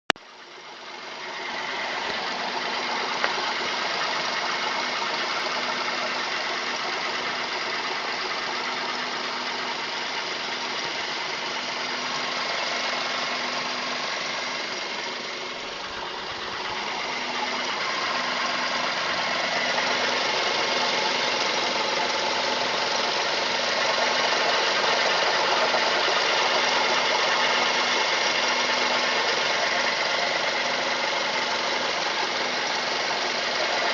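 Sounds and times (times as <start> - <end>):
car engine knocking: 0.1 - 33.9.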